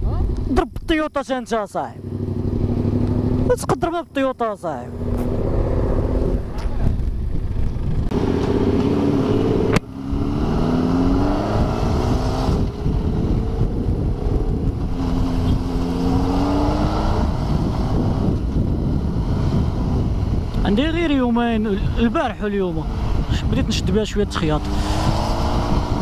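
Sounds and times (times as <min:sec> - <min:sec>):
motorcycle engine accelerating: 0:01.9 - 0:04.0, 0:04.7 - 0:26.0
wind rush on microphone: 0:04.9 - 0:26.0.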